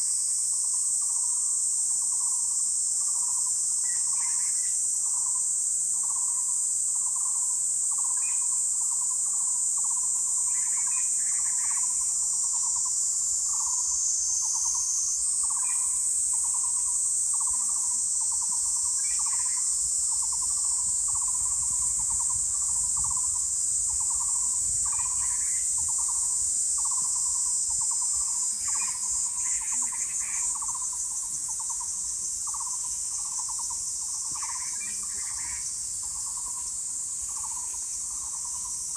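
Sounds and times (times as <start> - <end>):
high-pitched insect shrill: 2.2 - 38.9.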